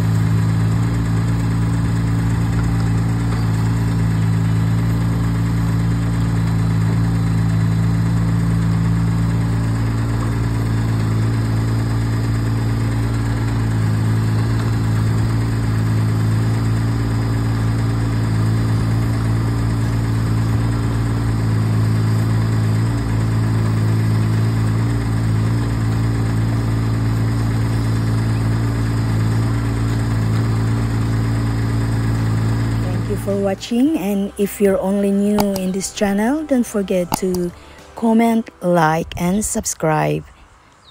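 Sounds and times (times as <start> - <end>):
excavator engine droning: 0.0 - 40.9.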